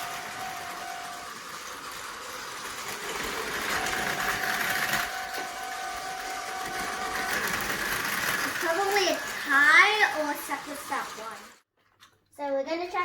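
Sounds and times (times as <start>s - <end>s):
gears and wheels rattling: 0.0s - 11.6s
toy train motor whine: 0.0s - 11.6s.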